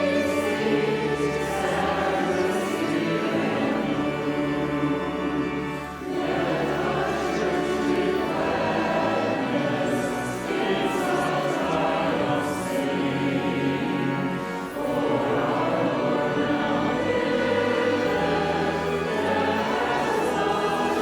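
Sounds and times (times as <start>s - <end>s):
choir breaths: 0.0s - 21.0s
choir singing: 0.0s - 21.0s.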